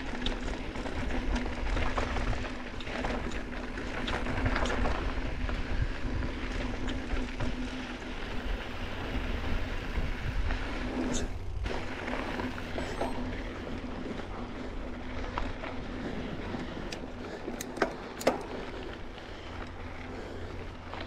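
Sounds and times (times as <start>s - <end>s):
bike rattling: 0.0s - 21.0s
bike tyres crunching over dirt: 0.0s - 21.0s.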